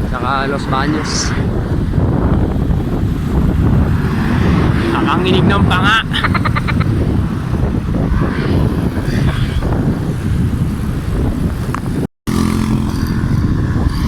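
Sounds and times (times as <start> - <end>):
vehicle noise: 0.0 - 14.0
wind and road noise: 0.0 - 14.0.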